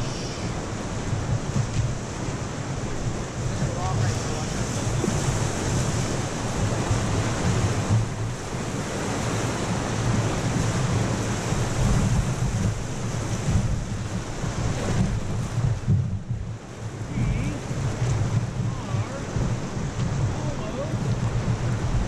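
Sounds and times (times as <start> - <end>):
whitewater rapids rushing: 0.0 - 15.4, 16.7 - 22.0
wind noise on microphone: 0.0 - 22.0.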